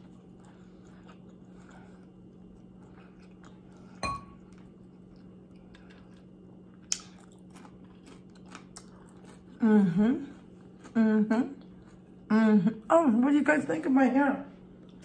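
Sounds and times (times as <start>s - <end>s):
faint chewing: 0.0s - 12.3s, 14.6s - 15.0s
steady low hum: 0.0s - 15.0s.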